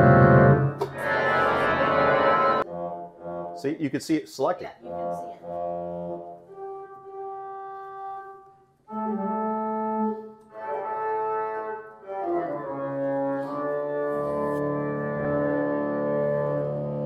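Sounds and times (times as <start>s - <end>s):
pipe organ chords: 0.0s - 3.7s, 4.9s - 17.0s.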